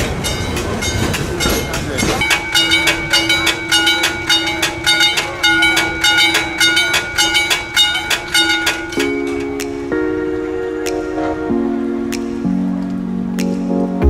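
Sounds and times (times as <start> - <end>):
level crossing bell ringing: 0.0 - 11.3
music: 0.0 - 14.0.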